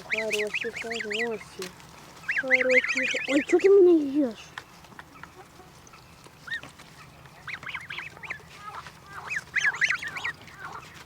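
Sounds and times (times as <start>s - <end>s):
goslings peeping: 0.0s - 11.0s.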